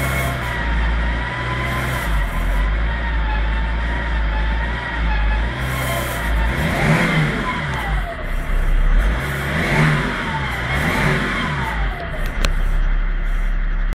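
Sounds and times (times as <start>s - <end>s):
diesel engine revving: 0.0s - 13.9s
turbocharger whine: 0.0s - 13.9s.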